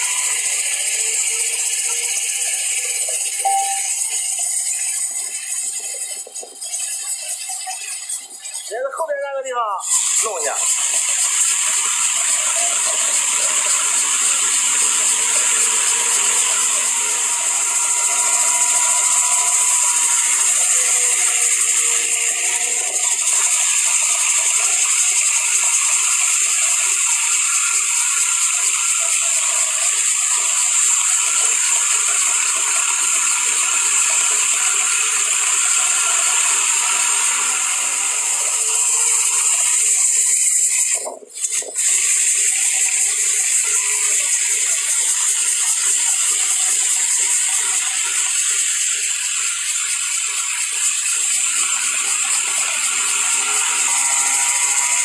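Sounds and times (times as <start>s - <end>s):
small helicopter engine rattling: 0.0s - 9.0s, 10.2s - 55.0s.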